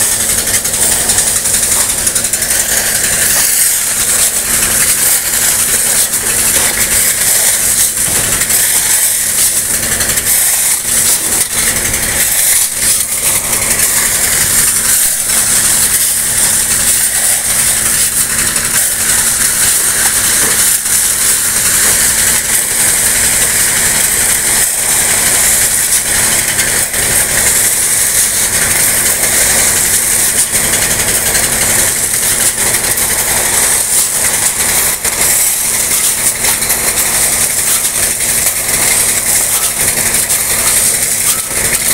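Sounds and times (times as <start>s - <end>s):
pump engine running: 0.0s - 41.9s.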